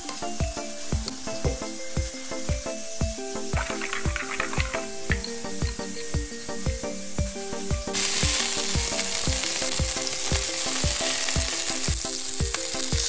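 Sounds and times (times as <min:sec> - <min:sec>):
background music with steady beat: 0:00.0 - 0:13.0
patties sizzling in oil: 0:00.0 - 0:13.0.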